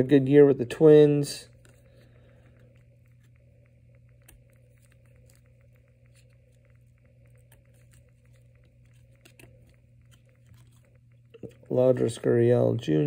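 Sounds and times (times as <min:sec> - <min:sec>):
steady low hum: 0:00.0 - 0:13.0
cards flipped by hand: 0:01.5 - 0:12.2.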